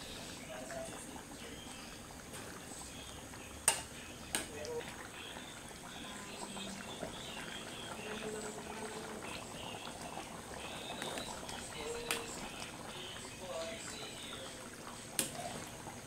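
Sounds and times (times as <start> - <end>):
sauce bubbling in metal pan: 0.0 - 16.0.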